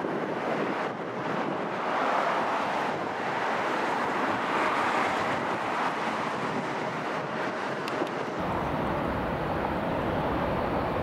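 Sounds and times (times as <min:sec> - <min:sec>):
jet engine rush: 0:00.0 - 0:11.0.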